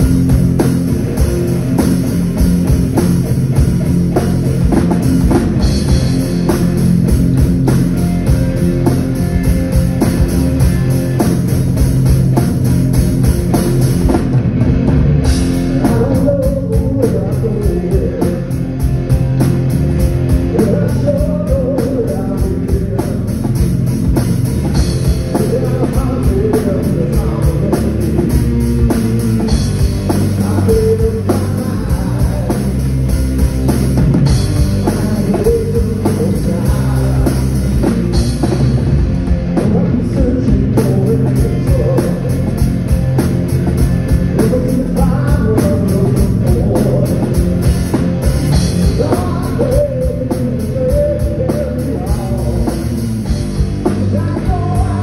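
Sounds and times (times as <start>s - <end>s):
bass guitar: 0.0s - 55.0s
drum kit with cymbals: 0.0s - 55.0s
electric guitars: 0.0s - 55.0s.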